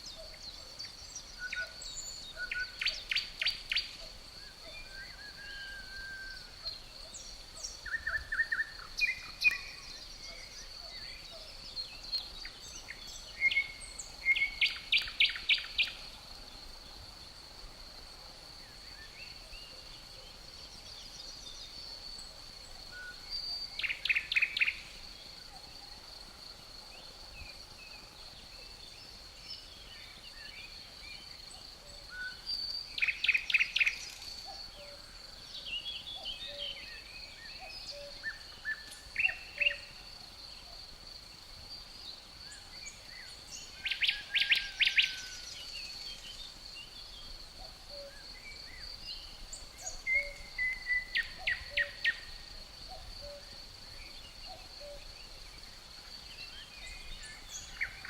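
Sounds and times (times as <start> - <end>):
cricket trill: 0.0 - 58.0
songbirds singing: 0.0 - 58.0.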